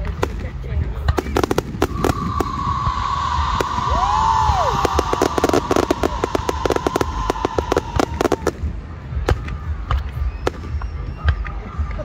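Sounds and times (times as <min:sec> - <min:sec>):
fireworks crackling pops and bangs: 0:00.0 - 0:12.0.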